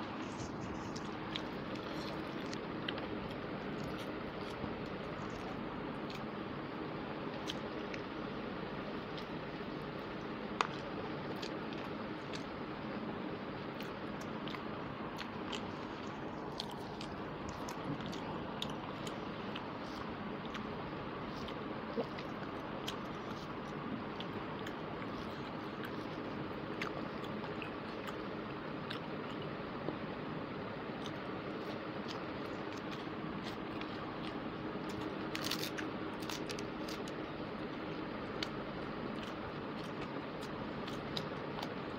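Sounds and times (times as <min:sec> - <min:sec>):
chewing and mouth smacks: 0:00.1 - 0:06.3, 0:10.2 - 0:12.5, 0:13.8 - 0:20.7, 0:21.3 - 0:29.5, 0:31.0 - 0:37.3, 0:37.9 - 0:41.8.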